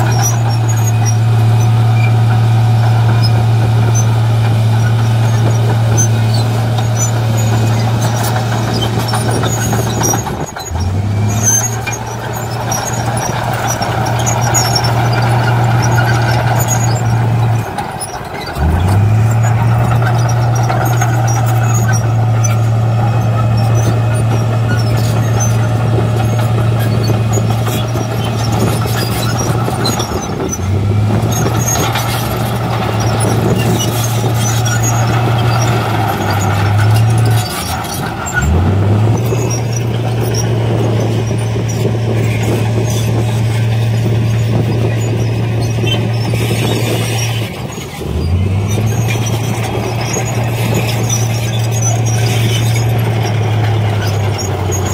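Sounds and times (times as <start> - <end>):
bulldozer diesel engine running: 0.0 - 54.9
steel tracks squeaking: 0.0 - 54.9.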